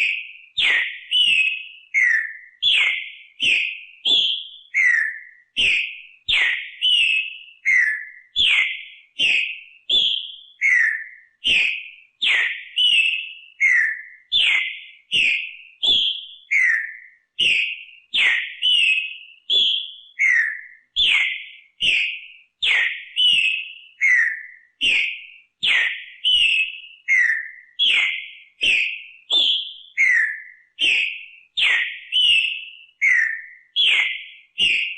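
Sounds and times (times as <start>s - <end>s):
bird whistling song: 0.0s - 34.9s.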